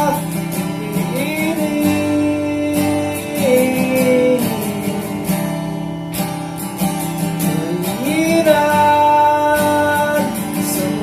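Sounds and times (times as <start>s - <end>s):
strummed acoustic guitar music: 0.0s - 11.0s.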